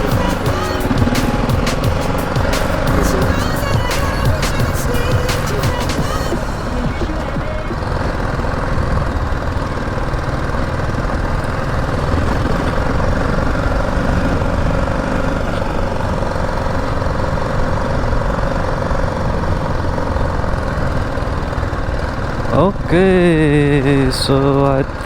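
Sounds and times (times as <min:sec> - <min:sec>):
motorcycle engine running: 0:00.0 - 0:25.0
road and wind noise: 0:00.0 - 0:25.0.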